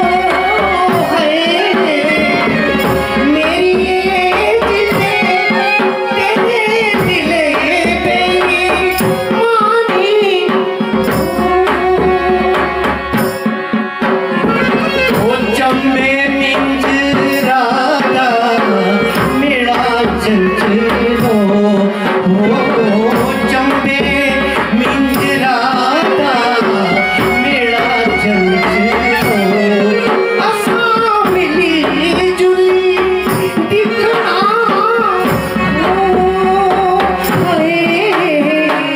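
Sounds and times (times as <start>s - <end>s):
person singing folk song: 0.0s - 13.2s, 14.4s - 38.9s
hand drum: 0.0s - 38.9s
harmonium: 0.0s - 38.9s.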